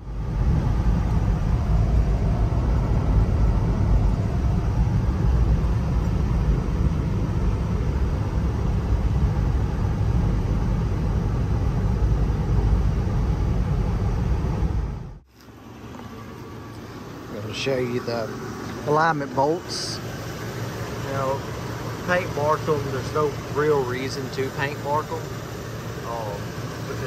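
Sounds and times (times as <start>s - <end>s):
car cabin road and wind noise: 0.0s - 27.0s.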